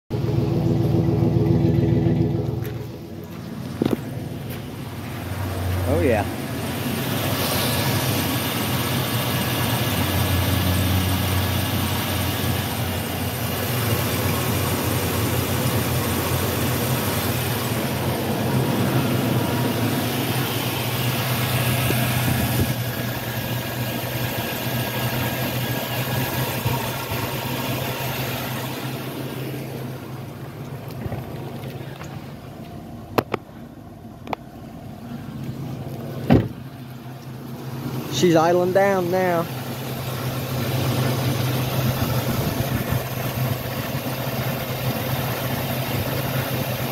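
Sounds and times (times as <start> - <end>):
pickup engine idling: 0.1 - 46.9.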